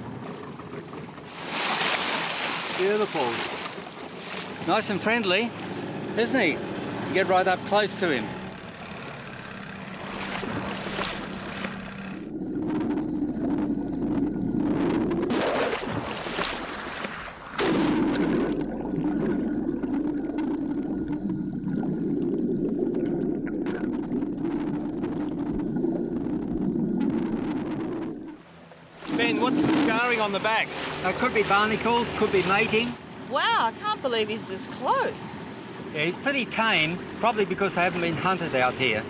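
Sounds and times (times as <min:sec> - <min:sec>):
boat engine drone underwater: 0:00.0 - 0:39.0
rushing water: 0:00.0 - 0:39.0.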